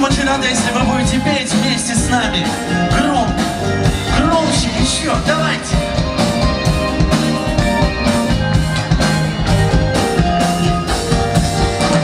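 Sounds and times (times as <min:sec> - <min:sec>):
live pop-rock band playing: 0:00.0 - 0:12.0.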